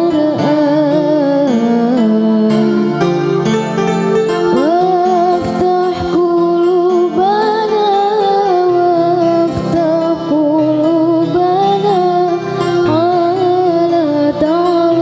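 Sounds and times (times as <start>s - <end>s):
woman singing: 0.0s - 3.2s, 4.5s - 15.0s
instrumental backing music: 0.0s - 15.0s.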